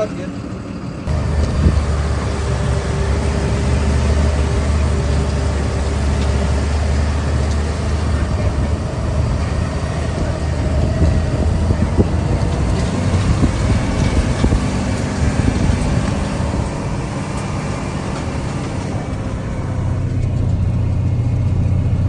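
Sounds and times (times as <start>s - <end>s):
road and mechanical noise: 0.0s - 22.0s
truck engine droning: 0.0s - 22.0s.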